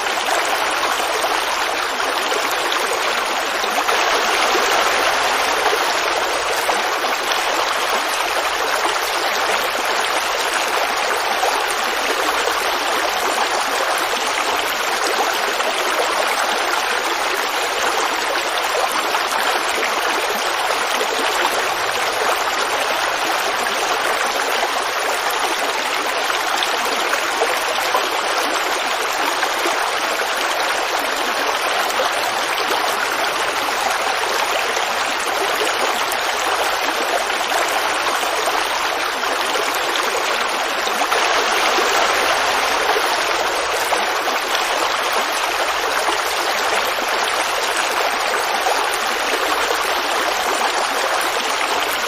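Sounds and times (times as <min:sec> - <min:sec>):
creek flowing over rocks: 0:00.0 - 0:52.0.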